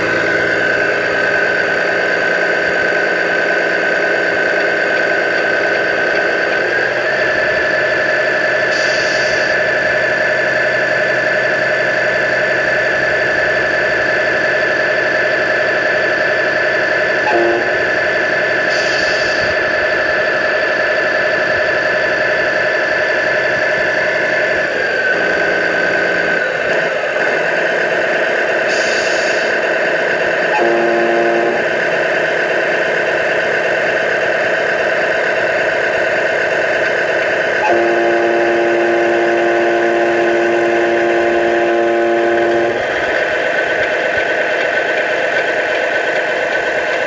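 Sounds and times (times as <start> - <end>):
synthetic diesel engine drone: 0.0 - 47.0.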